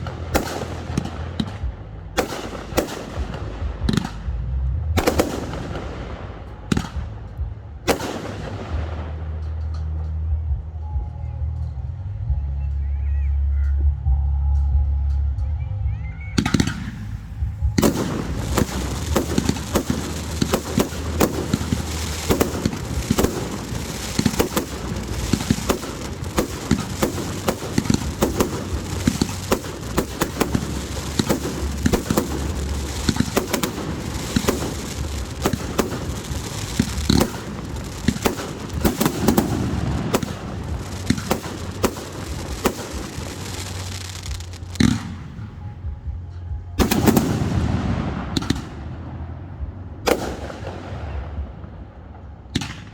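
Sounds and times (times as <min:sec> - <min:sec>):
fireworks bangs and crackling: 0:00.0 - 0:10.7, 0:16.4 - 0:52.9.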